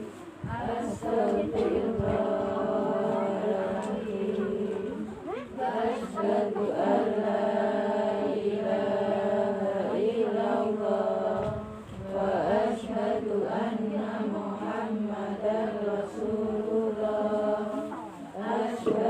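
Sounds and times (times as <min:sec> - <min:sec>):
congregation chanting in unison: 0:00.0 - 0:19.0.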